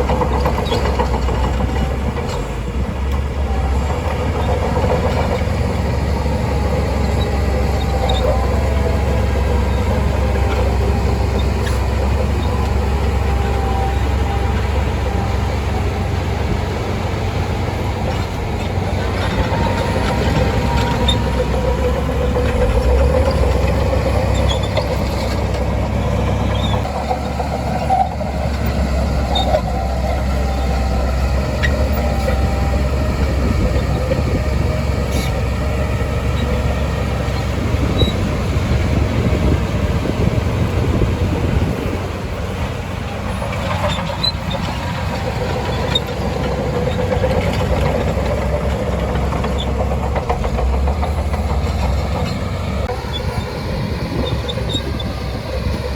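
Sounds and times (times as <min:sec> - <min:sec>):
diesel engine rumbling: 0:00.0 - 0:55.9
steel tracks clattering: 0:00.0 - 0:55.9.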